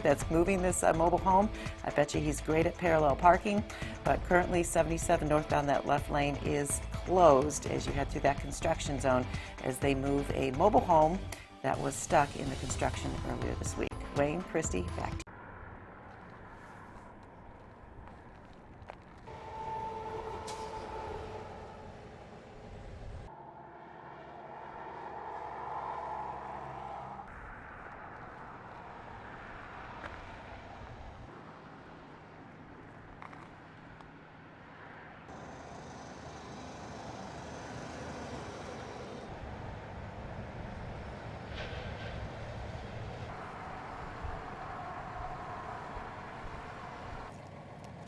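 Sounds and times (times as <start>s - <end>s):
highway vehicle noise: 0.0s - 48.0s.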